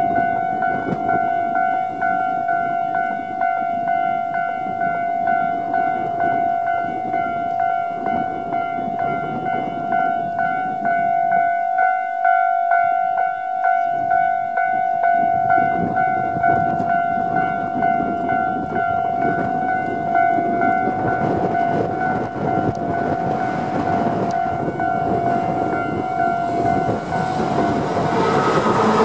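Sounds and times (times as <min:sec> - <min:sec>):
electric train rumbling: 0:00.0 - 0:29.0
level-crossing alarm bell: 0:00.0 - 0:29.0.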